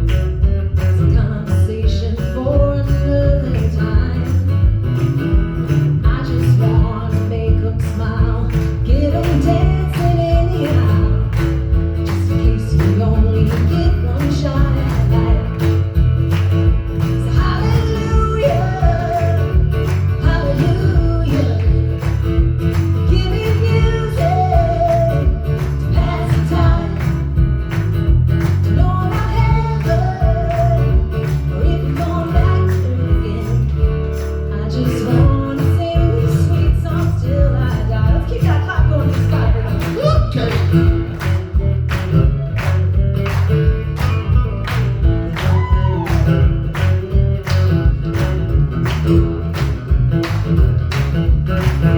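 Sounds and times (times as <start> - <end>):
acoustic guitar folk song: 0.0 - 51.9
low bass: 0.0 - 51.9.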